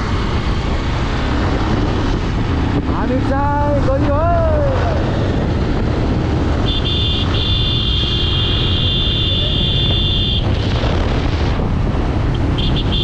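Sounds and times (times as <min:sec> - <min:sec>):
motorcycle engine: 0:00.0 - 0:13.0
wind rumble: 0:00.0 - 0:13.0.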